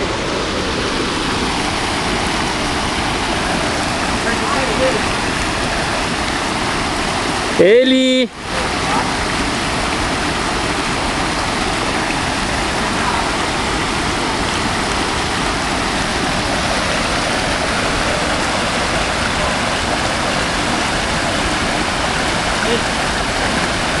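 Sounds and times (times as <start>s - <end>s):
waterfall rushing into pool: 0.0s - 24.0s.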